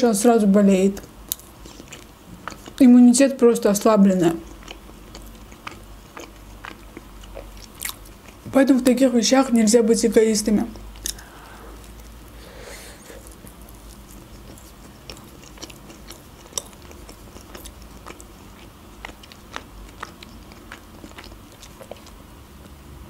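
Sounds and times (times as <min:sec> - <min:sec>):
person chewing food: 0:01.0 - 0:02.9, 0:03.8 - 0:08.6, 0:10.7 - 0:22.8.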